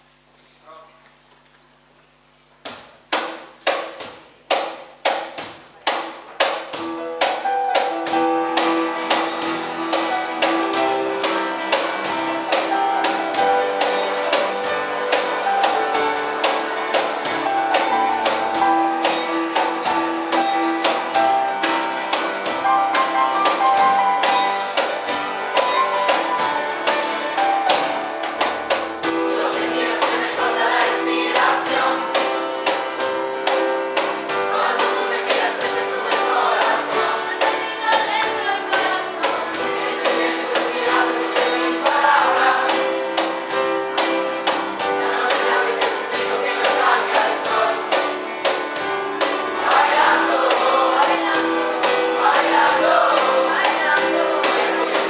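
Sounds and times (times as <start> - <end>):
sharp evenly spaced beats: 2.7 - 55.0
band playing pop music: 6.8 - 55.0
choir singing: 8.6 - 55.0.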